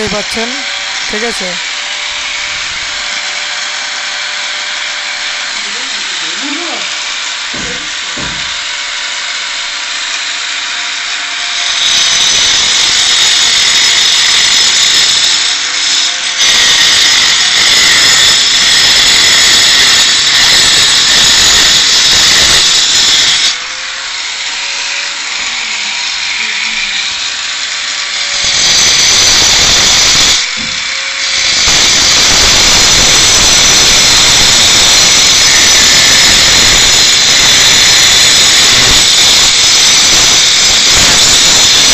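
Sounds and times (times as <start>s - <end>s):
angle grinder cutting concrete: 0.0s - 41.9s.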